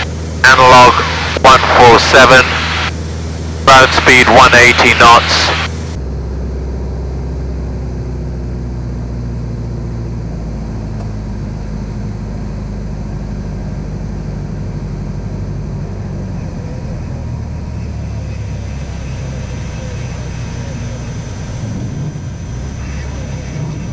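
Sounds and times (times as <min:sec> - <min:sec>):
light aircraft engine drone: 0:00.0 - 0:23.9.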